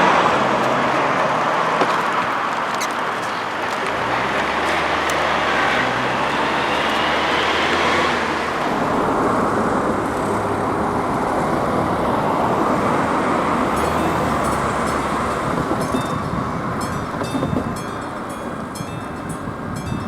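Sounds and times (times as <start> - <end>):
low engine hum: 0.0 - 20.0
road traffic passing: 0.0 - 20.0.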